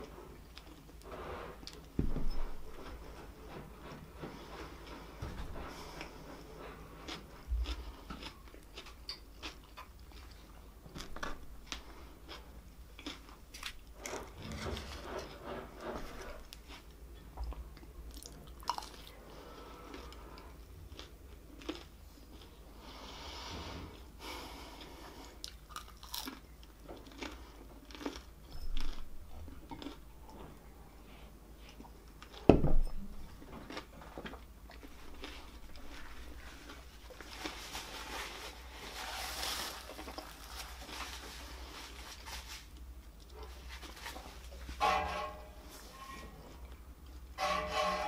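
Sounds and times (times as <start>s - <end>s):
chewing and crunching food: 0.0s - 2.0s, 2.7s - 23.0s, 24.6s - 32.5s, 33.2s - 44.7s.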